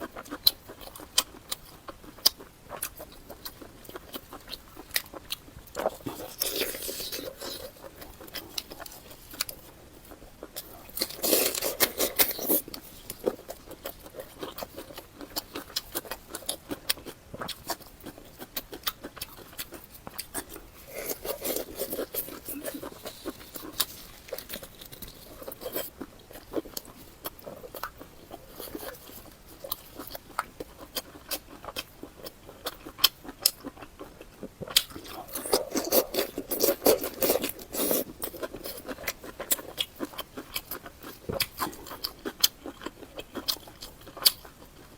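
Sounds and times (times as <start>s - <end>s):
person chewing and biting: 0.0s - 44.9s.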